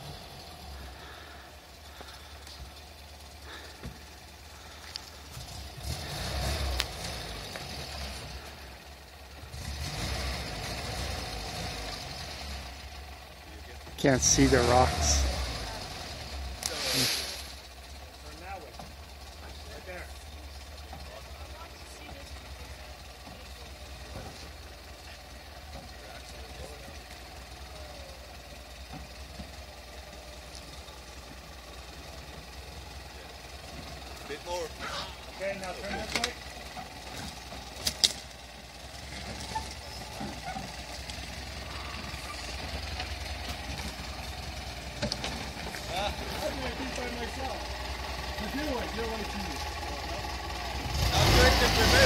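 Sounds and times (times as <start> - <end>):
truck engine at low revs: 0.0 - 52.0.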